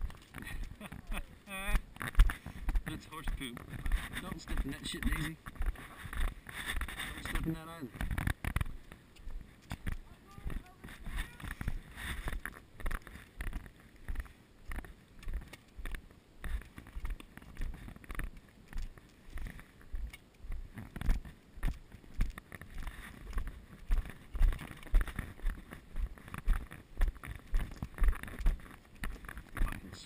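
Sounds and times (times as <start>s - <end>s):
footsteps on concrete: 0.0s - 30.0s.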